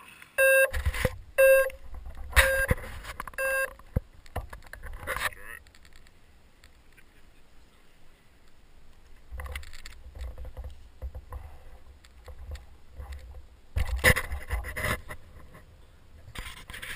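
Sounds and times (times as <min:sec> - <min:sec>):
rustling handling noise: 0:00.0 - 0:07.2, 0:08.5 - 0:16.9.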